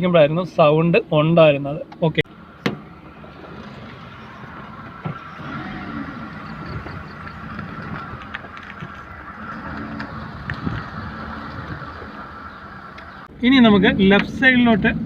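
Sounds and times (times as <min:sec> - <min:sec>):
tyres running on road: 0:00.0 - 0:15.0
car engine running: 0:02.3 - 0:15.0.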